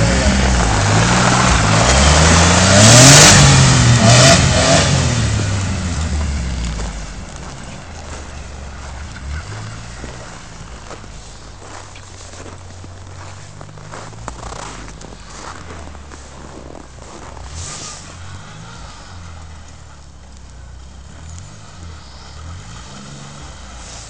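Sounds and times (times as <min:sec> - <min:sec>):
small engine revving: 0:00.0 - 0:24.0.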